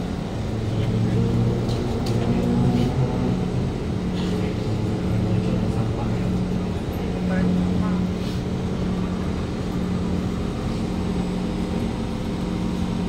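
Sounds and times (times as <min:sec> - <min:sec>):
passenger noise: 0:00.0 - 0:13.0.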